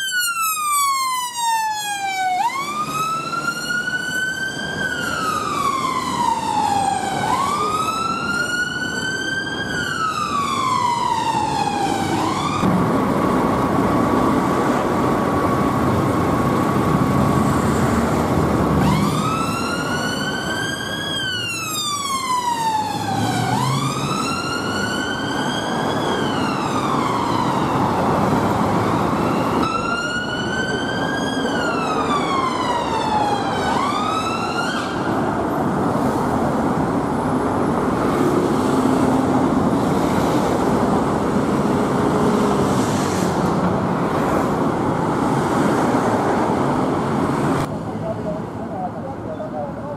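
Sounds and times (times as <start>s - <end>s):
ambulance siren wailing: 0.0s - 42.6s
city traffic: 0.0s - 49.9s.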